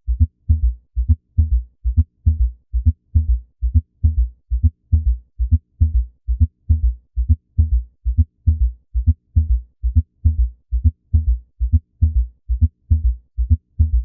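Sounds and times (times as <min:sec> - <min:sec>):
heartbeat in gallop rhythm: 0:00.0 - 0:14.0.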